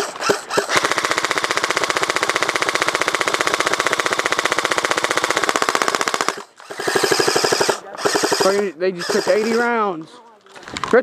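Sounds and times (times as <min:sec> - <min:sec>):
airsoft gun firing full auto: 0:00.0 - 0:09.9.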